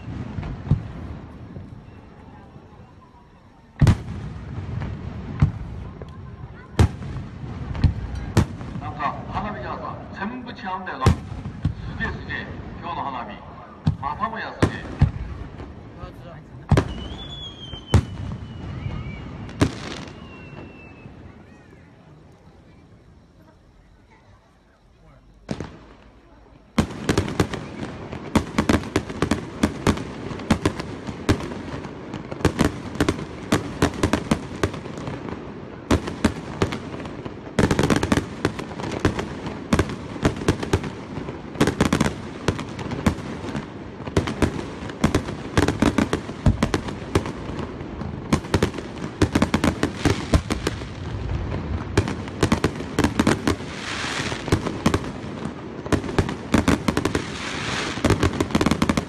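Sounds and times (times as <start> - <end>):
fireworks bangs: 0.0 - 59.0
fireworks crackle: 0.0 - 59.0.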